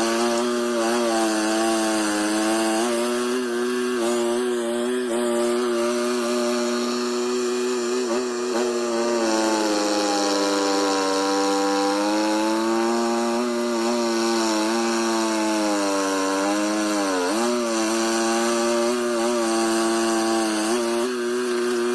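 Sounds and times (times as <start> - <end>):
skid steer loader engine running: 0.0 - 21.9.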